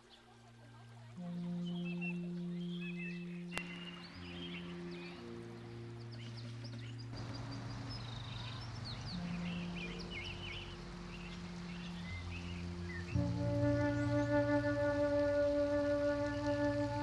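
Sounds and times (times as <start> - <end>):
birds chirping: 0.0 - 17.0
soft low sustained chords: 0.0 - 17.0.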